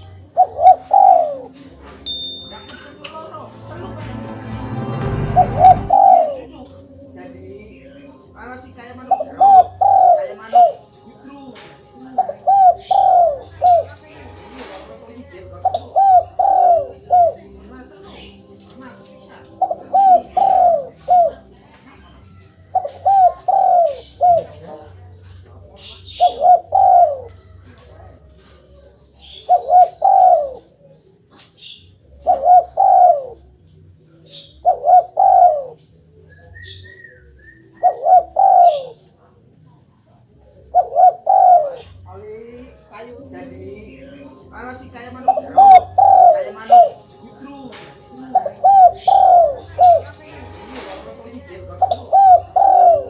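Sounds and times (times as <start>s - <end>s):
dove cooing: 0.0s - 2.0s, 5.1s - 25.1s, 25.9s - 33.6s, 34.6s - 35.8s, 36.5s - 39.5s, 40.4s - 42.3s, 43.0s - 53.0s.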